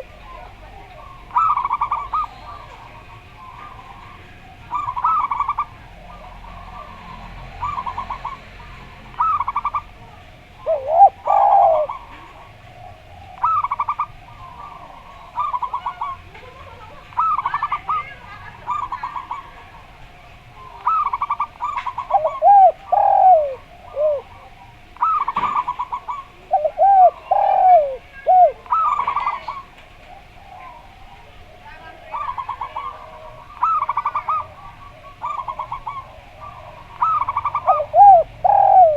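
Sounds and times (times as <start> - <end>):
doves bubbling coo: 0.0 - 8.4, 9.1 - 19.9, 20.6 - 38.9
turtle-dove swinging coos: 0.0 - 38.9.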